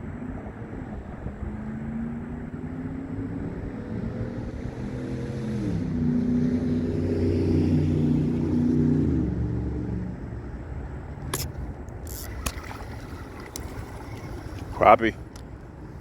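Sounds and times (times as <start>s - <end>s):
vehicle engine accelerating: 0.0s - 15.2s.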